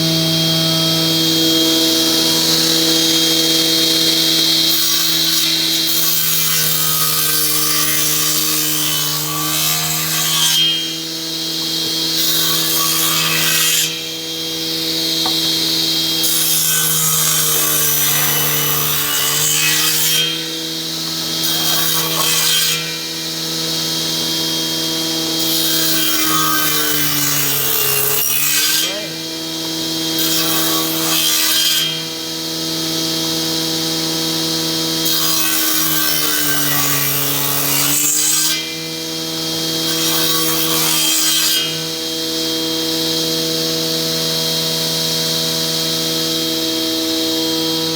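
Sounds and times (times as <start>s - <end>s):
power tool working wood: 0.0s - 47.9s.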